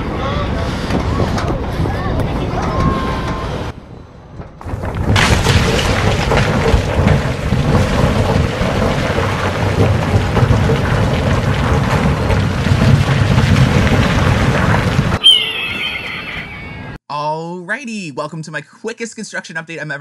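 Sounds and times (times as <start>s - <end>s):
roller coaster roaring rush: 0.0s - 17.0s.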